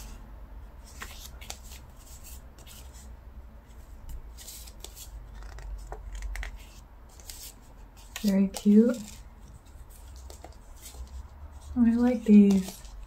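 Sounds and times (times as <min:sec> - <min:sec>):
paper sheets rustling: 0:00.8 - 0:03.0, 0:03.8 - 0:13.0.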